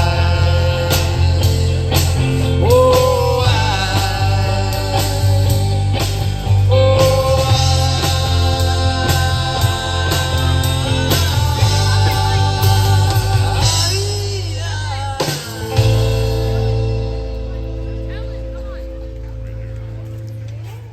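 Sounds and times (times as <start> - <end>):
rock band playing live: 0.0 - 20.7.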